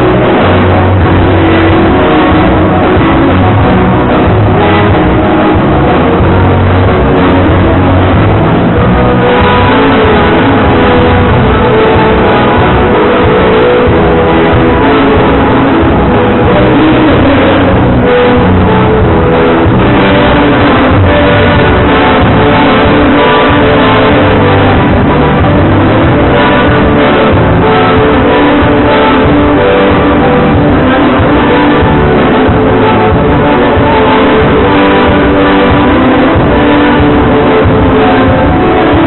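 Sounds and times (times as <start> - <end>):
live band playing dance music: 0.0 - 39.0.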